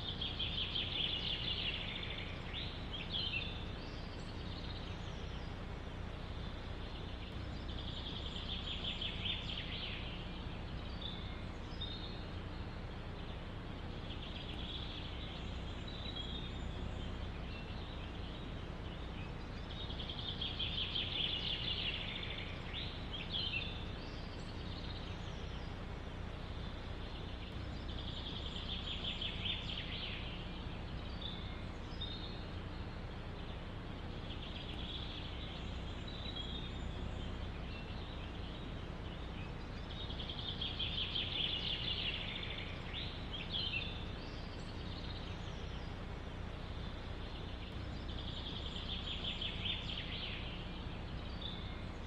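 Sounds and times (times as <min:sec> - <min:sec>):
bird chirps: 0:00.0 - 0:52.0
wind rumbling in forest: 0:00.0 - 0:52.0
songbird trilling: 0:06.2 - 0:52.0.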